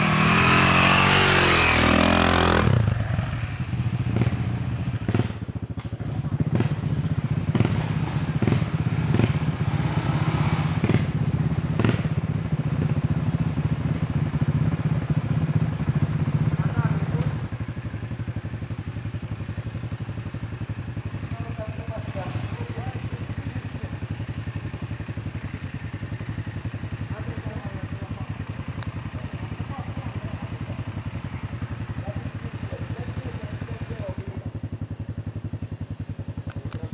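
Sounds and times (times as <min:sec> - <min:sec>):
motorcycle engine running at low revs: 0:00.0 - 0:36.9.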